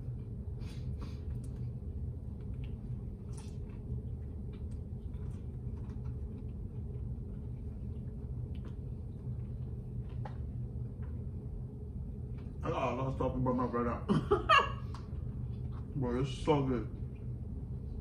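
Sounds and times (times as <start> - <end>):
soft chewing: 0.0 - 12.7, 14.8 - 18.0
low room hum: 0.0 - 18.0.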